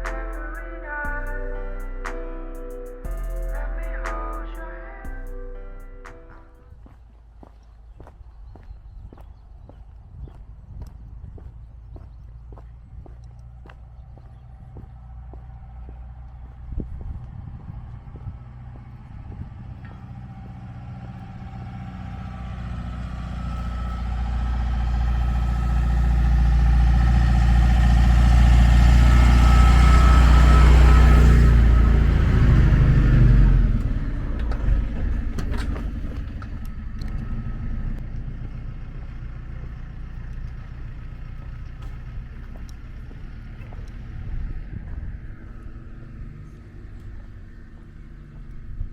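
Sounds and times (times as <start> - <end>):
motor vehicle passing: 0.0 - 48.9.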